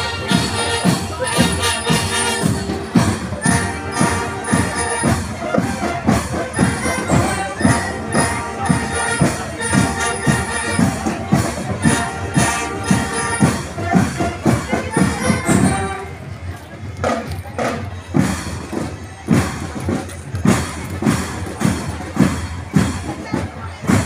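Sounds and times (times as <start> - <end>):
steady drum beat: 0.0 - 16.3, 17.0 - 24.0
jingling percussion: 0.0 - 24.0
marching band playing: 0.0 - 24.0.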